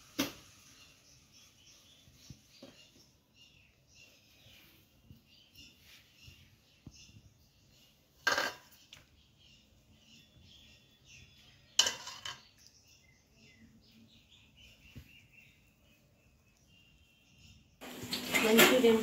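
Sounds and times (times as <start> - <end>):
faint bird chirps: 0.4 - 17.8.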